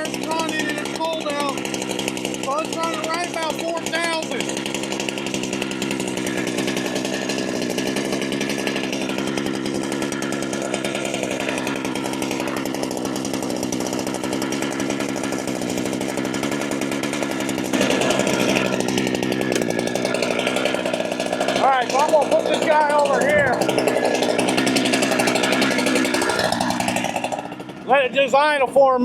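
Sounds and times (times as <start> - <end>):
chainsaw idling: 0.0 - 29.0.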